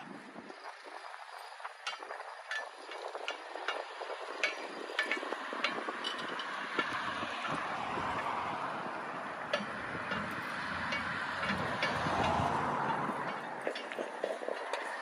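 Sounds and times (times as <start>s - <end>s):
metallic clinks and knocks: 1.8s - 8.4s, 9.5s - 15.0s.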